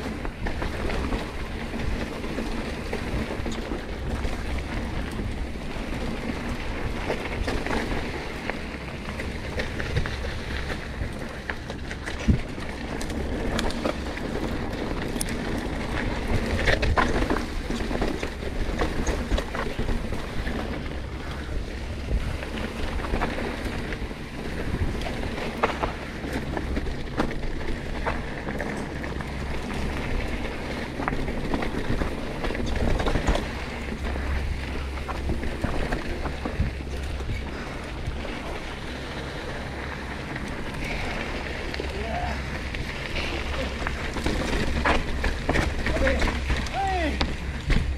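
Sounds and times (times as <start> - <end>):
bike rattling over rough ground: 0.0 - 47.9
wind buffeting microphone: 0.0 - 47.9.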